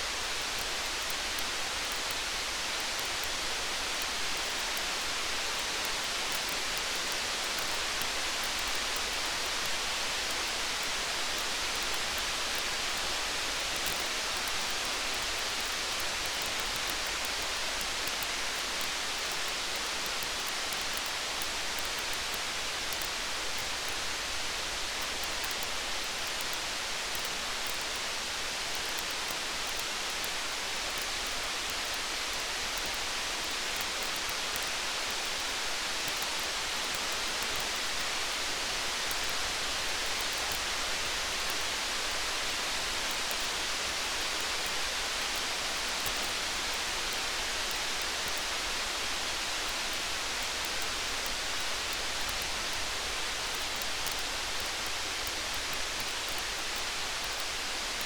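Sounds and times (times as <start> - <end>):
faint ticks: 0.0 - 58.0
steady rain hiss: 0.0 - 58.0.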